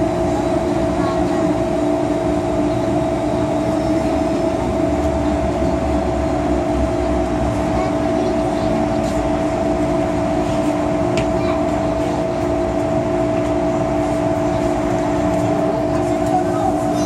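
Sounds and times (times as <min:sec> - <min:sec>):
train traction motor whine: 0:00.0 - 0:17.0
wheels rumbling on rails: 0:00.0 - 0:17.0.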